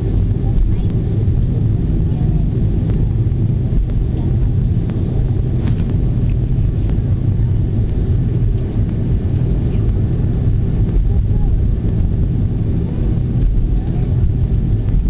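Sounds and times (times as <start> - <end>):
airframe rolling on taxiway: 0.0 - 15.0
jet engines low rumble: 0.0 - 15.0.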